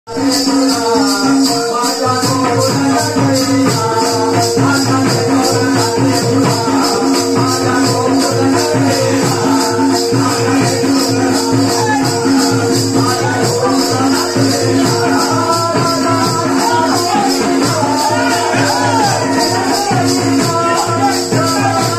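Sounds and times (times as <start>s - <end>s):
drum beat: 0.1s - 21.9s
man singing through loudspeaker: 0.1s - 21.9s
held drone note: 0.2s - 21.9s.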